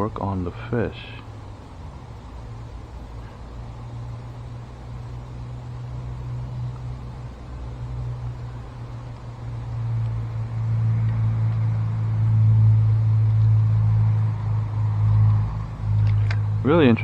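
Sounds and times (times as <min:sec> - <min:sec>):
vehicle engine drone: 0:00.0 - 0:17.0.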